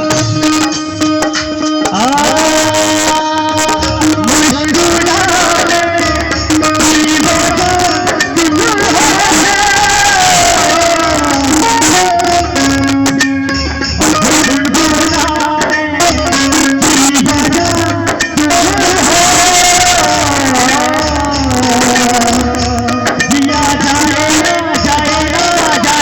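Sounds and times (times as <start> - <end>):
instrumental accompaniment: 0.0 - 26.0
person singing: 0.0 - 26.0
steady drum beats: 0.0 - 26.0.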